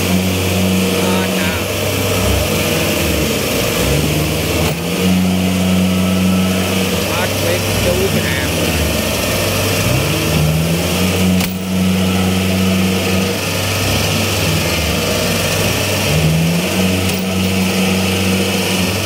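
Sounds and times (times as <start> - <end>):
harvester engine revving: 0.0 - 19.0.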